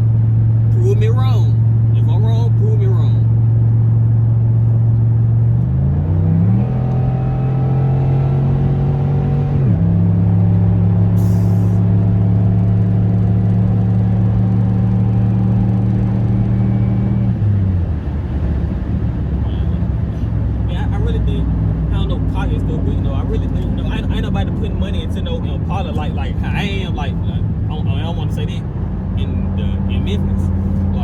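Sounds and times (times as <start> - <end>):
vee eight exhaust droning: 0.6 - 4.5, 6.1 - 31.0.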